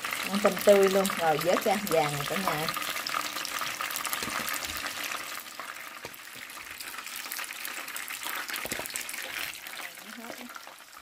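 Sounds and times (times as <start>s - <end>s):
shrimp deep-frying in oil: 0.0s - 11.0s.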